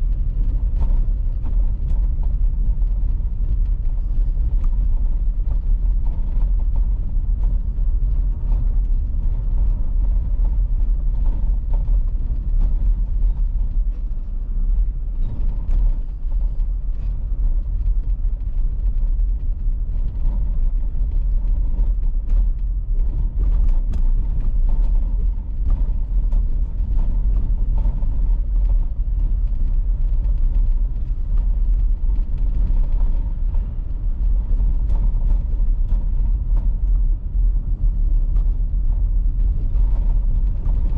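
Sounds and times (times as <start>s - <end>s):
car tyres and engine rumble: 0.0s - 40.9s
faint ticks and clicks: 0.1s - 40.9s.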